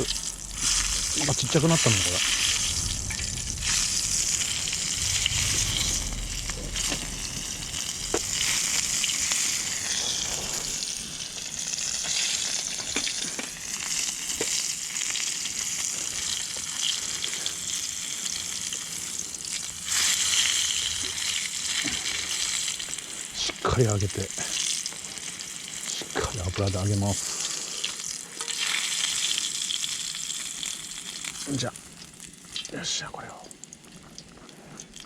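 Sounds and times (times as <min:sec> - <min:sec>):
fish deep-frying in oil: 0:00.0 - 0:35.0.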